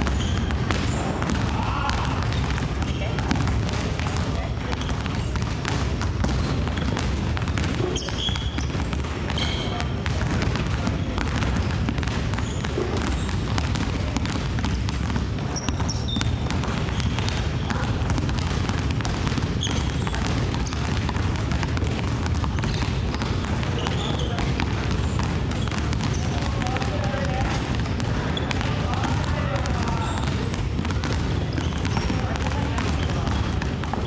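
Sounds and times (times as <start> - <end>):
basketballs bouncing on wooden floor: 0.0 - 34.0.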